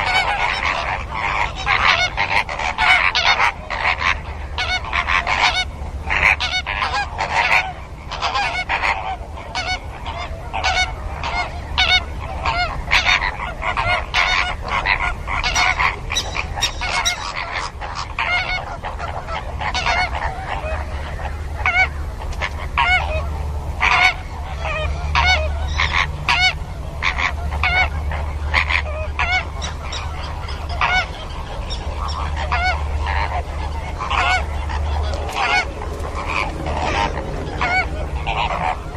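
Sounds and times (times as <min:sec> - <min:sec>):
flamingos honking: 0:00.0 - 0:38.9
steady low hum: 0:00.0 - 0:38.9.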